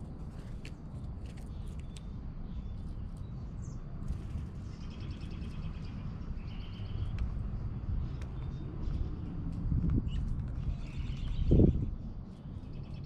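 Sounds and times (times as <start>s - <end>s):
songbirds calling: 0.0s - 13.0s
steady low rumble: 0.0s - 13.0s.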